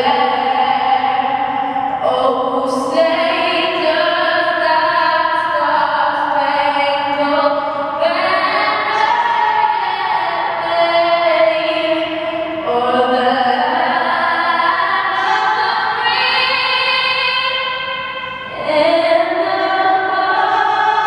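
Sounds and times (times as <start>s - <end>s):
girl singing into a microphone: 0.0s - 21.0s.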